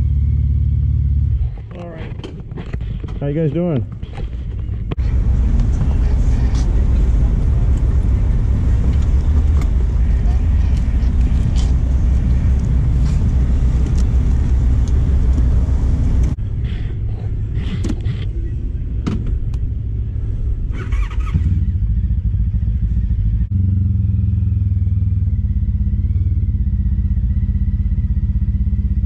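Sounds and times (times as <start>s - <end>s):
motorcycle engine running: 0.0s - 2.0s, 4.0s - 16.6s, 19.7s - 29.0s.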